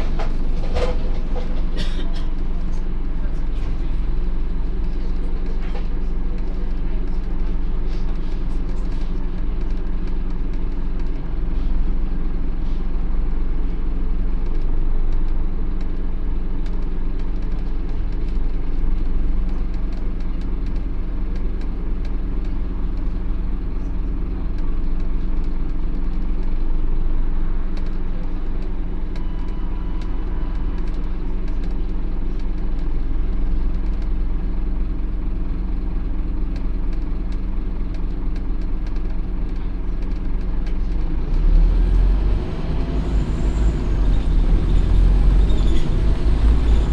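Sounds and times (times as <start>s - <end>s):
bus engine droning: 0.0s - 46.9s.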